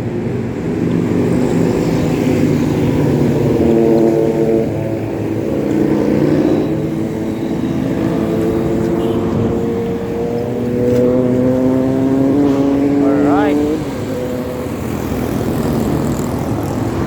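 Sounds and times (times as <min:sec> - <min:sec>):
highway traffic engine hum: 0:00.0 - 0:17.0.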